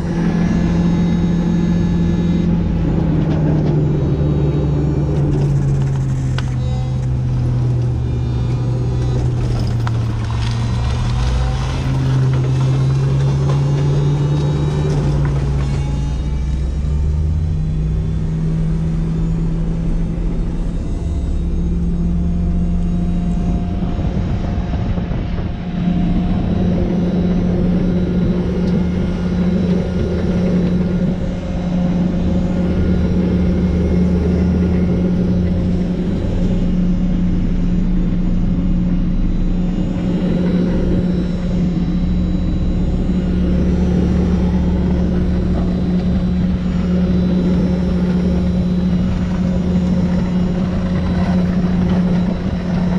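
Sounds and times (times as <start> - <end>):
street sweeper truck engine drone: 0.0 - 52.9.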